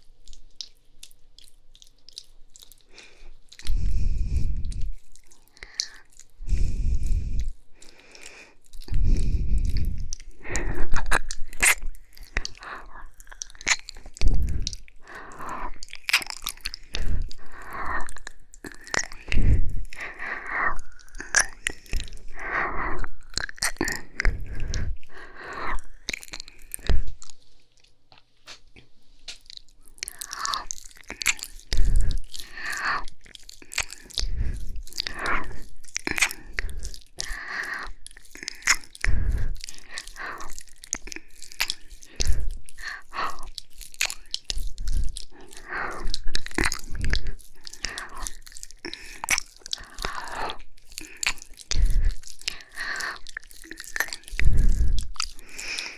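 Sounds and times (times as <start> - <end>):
wet licking and kissing mouth sounds: 0.0 - 28.6, 29.3 - 55.9
breaths close to microphone: 2.8 - 27.4, 28.5 - 55.9.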